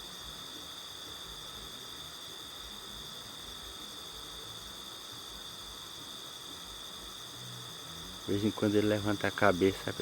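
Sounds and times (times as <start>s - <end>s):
night insects trilling: 0.0s - 10.0s.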